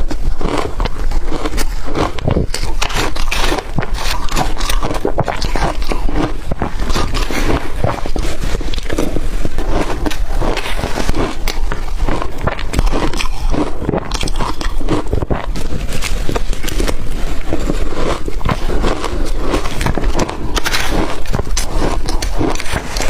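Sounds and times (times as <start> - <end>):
crushed ice crunching: 0.4 - 23.0.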